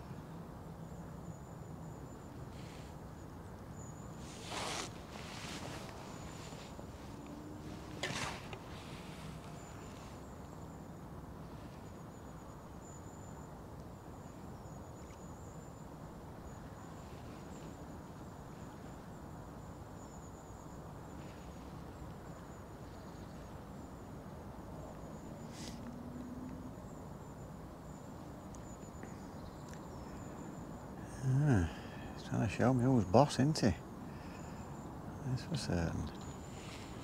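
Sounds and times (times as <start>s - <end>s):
low background hum: 0.0s - 37.0s.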